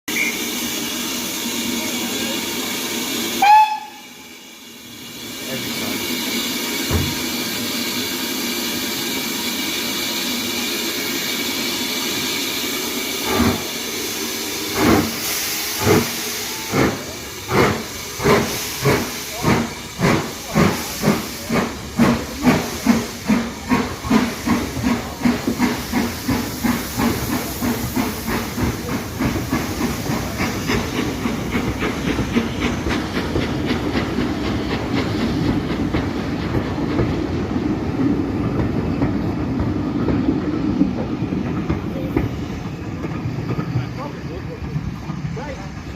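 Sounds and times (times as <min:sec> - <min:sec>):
steam hissing: 0:00.1 - 0:45.9
steam locomotive chuffing: 0:00.1 - 0:45.9.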